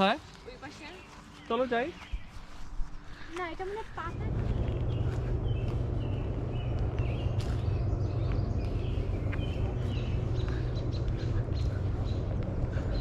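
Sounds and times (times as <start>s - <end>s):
small birds chirping: 0.0s - 13.0s
steady low rumble: 2.2s - 13.0s.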